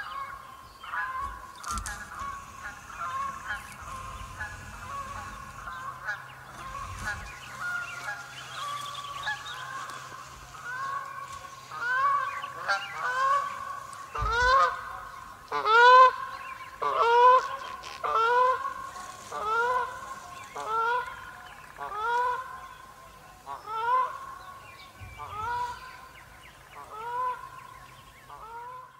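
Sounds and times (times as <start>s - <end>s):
geese honking: 0.0s - 28.9s.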